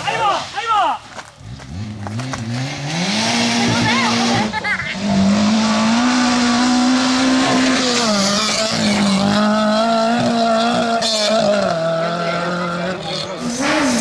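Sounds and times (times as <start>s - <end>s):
rally car engine at high revs: 1.4s - 14.0s.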